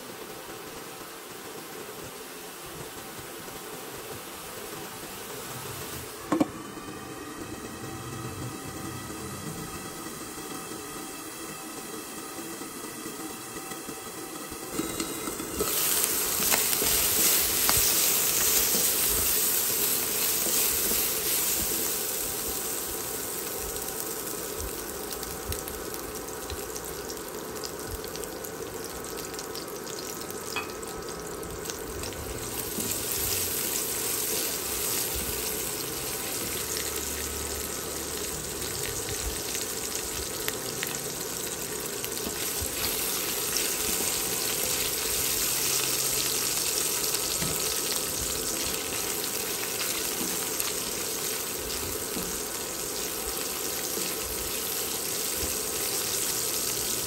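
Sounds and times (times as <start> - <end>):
meat and onions sizzling in a wok: 0.0 - 57.0.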